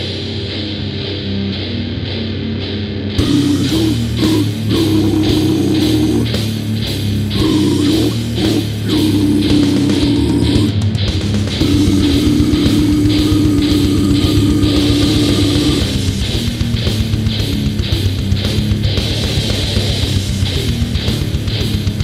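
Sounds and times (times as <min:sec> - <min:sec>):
distorted guitar and bass riff: 0:00.0 - 0:22.0
drums and cymbals: 0:03.2 - 0:22.0.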